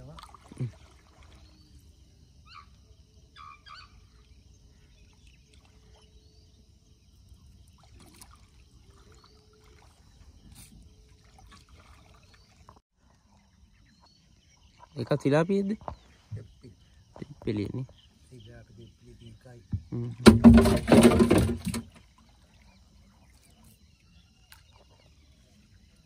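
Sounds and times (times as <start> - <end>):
water lapping around a boat: 0.0 - 26.0.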